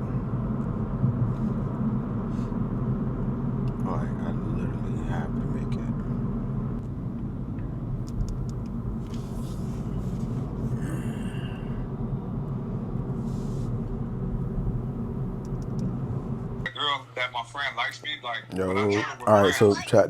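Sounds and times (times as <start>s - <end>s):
car engine and road noise: 0.0s - 16.7s.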